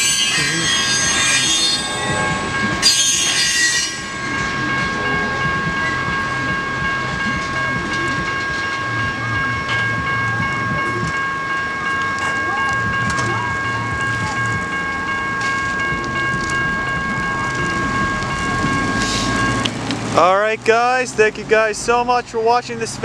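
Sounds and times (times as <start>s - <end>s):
crossing warning bell ringing: 0.0s - 23.0s
low train rumble: 0.0s - 23.0s
train wheels on rails: 0.0s - 23.0s.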